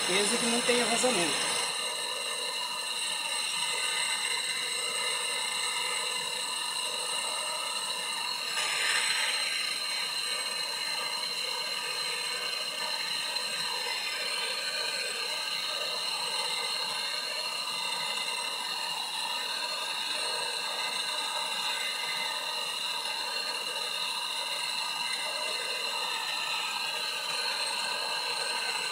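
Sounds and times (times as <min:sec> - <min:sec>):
gas torch flame hissing: 0:00.0 - 0:28.9.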